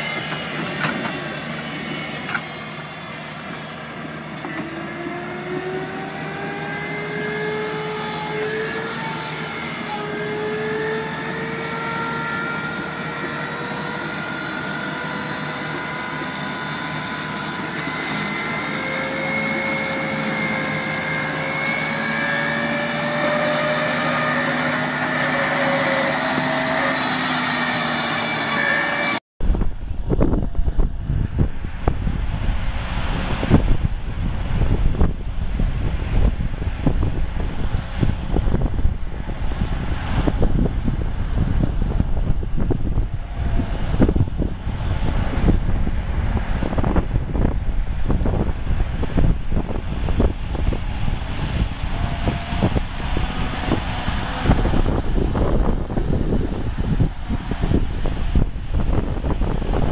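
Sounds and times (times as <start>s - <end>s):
excavator flail mower running: 0.0s - 29.2s, 32.4s - 59.9s
machinery whine: 0.0s - 59.9s.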